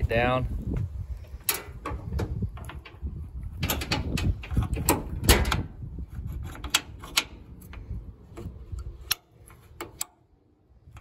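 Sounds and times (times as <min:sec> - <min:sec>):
sharp metal clicks and knocks: 0:01.4 - 0:10.3.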